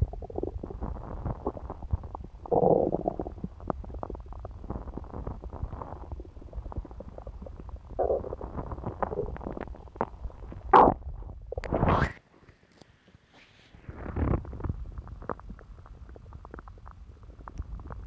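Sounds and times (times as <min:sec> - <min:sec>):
stomach gurgling and rumbling: 0:00.0 - 0:12.2, 0:13.7 - 0:18.0.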